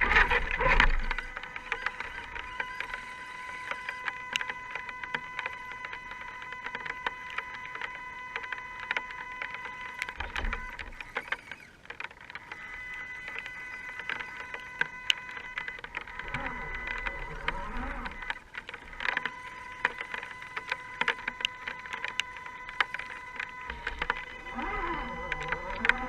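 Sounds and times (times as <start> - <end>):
clicks and ticks: 0.0 - 26.0
electric motor whining: 0.0 - 26.0.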